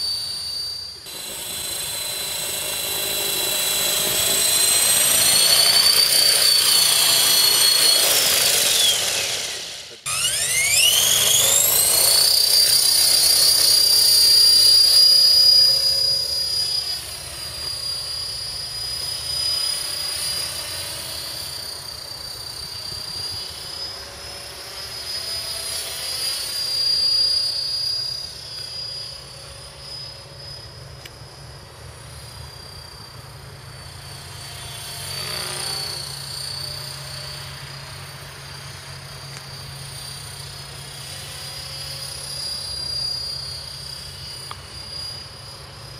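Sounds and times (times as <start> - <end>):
rc helicopter motor whining: 0.0 - 45.9.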